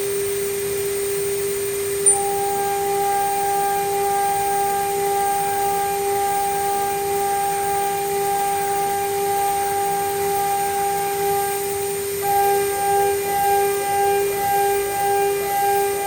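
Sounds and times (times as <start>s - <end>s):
router spindle high whine: 0.0s - 16.0s.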